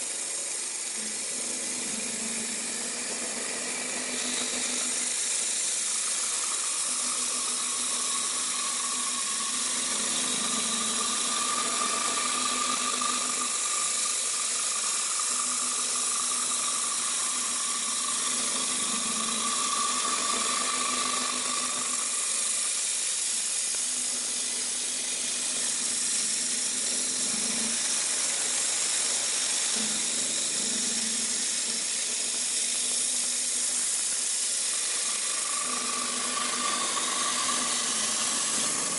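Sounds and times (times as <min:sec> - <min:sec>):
boring mill cutting metal: 0:00.0 - 0:38.9
machine whine: 0:00.0 - 0:38.9.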